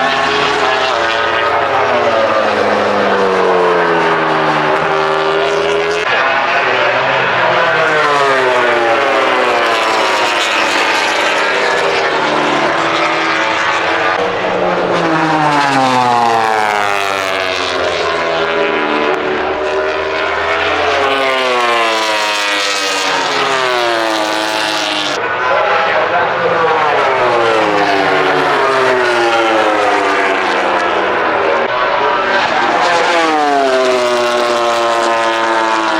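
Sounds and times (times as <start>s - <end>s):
racing motorcycles passing: 0.0s - 35.9s.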